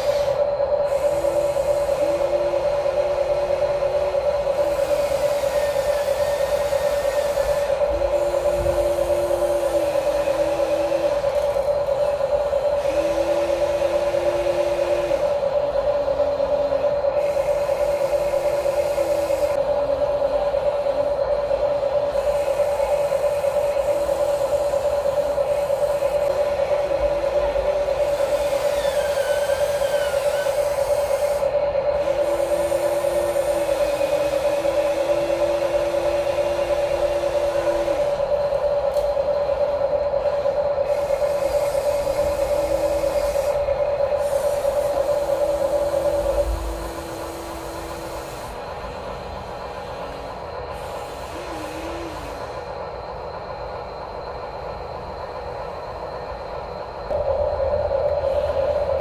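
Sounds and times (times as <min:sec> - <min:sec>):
electric gear motors whining: 0:00.0 - 0:59.0.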